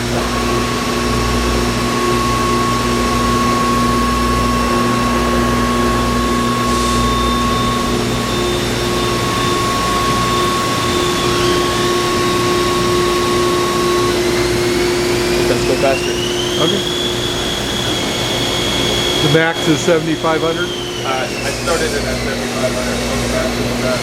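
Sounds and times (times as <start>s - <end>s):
higher whine: 0.0s - 24.0s
mill spindle whining: 0.0s - 24.0s.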